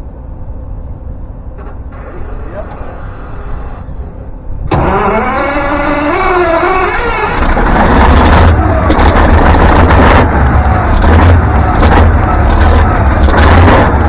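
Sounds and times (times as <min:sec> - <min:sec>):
deep diesel engine running: 0:00.0 - 0:14.0
starter motor cranking whine: 0:01.6 - 0:14.0.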